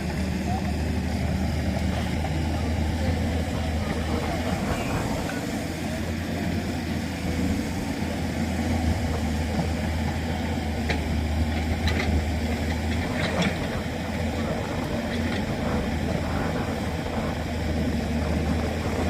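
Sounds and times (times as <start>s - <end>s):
heavy engine humming: 0.0s - 19.0s.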